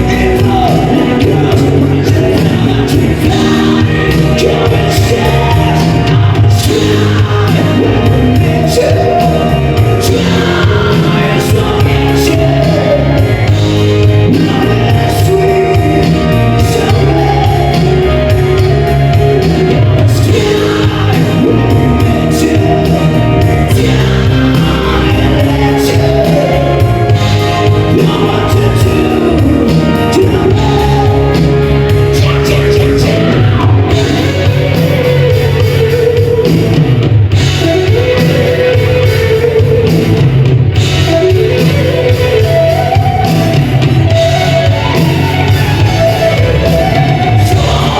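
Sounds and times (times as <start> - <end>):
live band playing: 0.0 - 47.9
person singing: 0.0 - 47.9.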